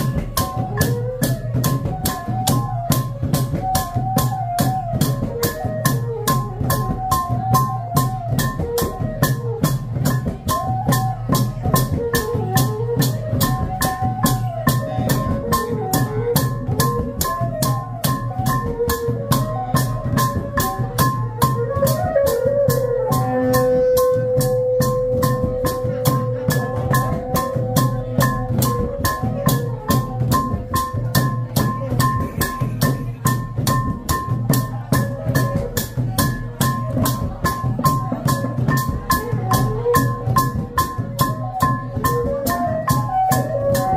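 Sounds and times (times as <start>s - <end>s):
drums and cymbals beat: 0.0s - 43.9s.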